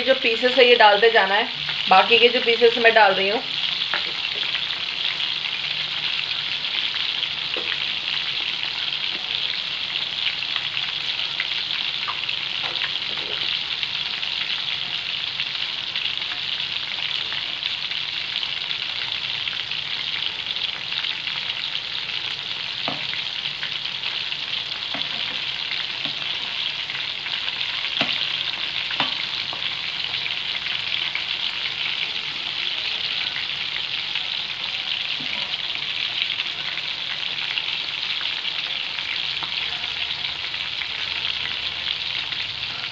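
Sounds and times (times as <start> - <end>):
prawns sizzling in hot oil: 0.0 - 42.9.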